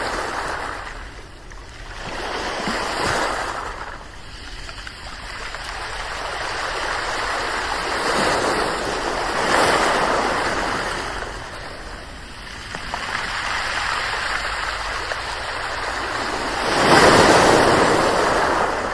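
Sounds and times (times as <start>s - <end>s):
ocean waves breaking on shore: 0.0s - 18.9s.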